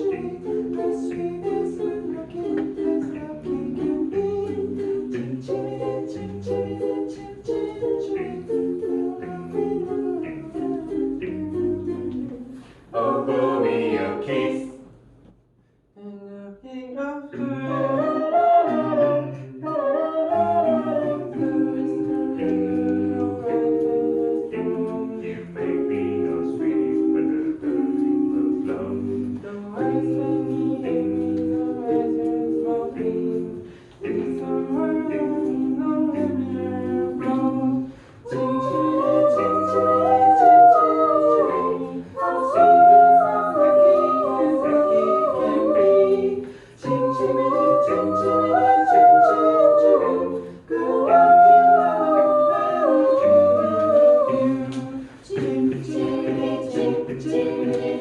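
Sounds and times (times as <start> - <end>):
a cappella group singing: 0.0 - 58.0.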